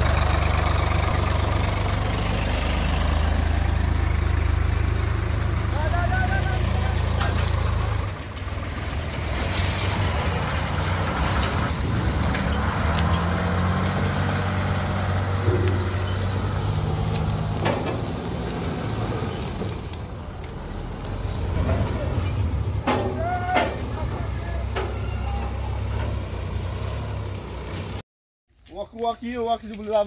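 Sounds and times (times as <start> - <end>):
heavy diesel engine droning: 0.0 - 28.0.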